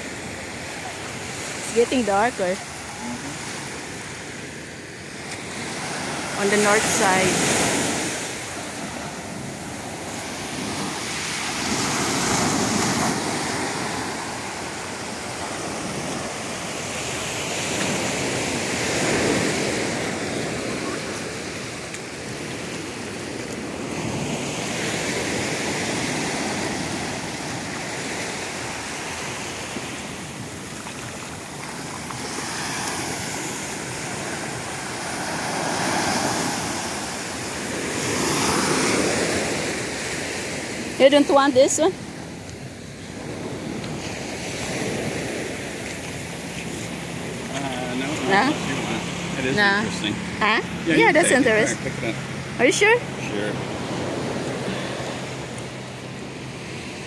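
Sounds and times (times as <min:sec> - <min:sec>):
small waves breaking on sand: 0:00.0 - 0:57.0.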